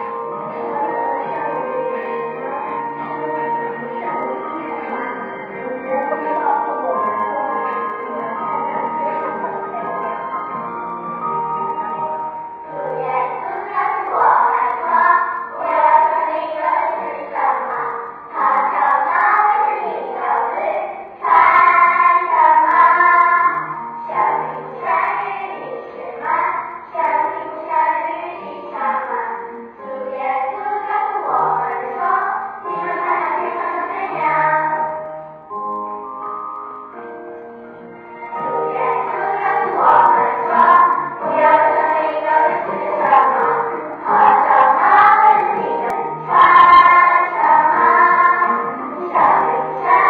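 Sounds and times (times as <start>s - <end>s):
children singing: 0.0s - 10.4s, 12.6s - 35.1s, 38.3s - 50.0s
instrumental accompaniment: 0.0s - 50.0s.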